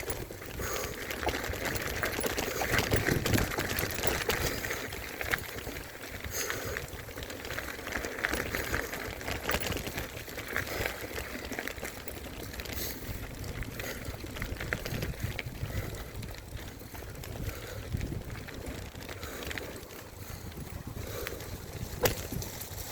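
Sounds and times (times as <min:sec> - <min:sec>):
bike tyres clicking and rattling: 0:00.0 - 0:22.9
wind rumbling on microphone: 0:00.0 - 0:22.9.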